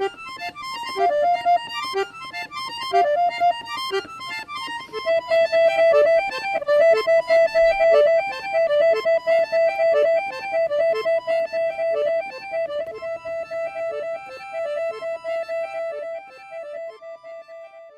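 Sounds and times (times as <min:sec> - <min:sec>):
piano accordion tune: 0:00.0 - 0:17.9.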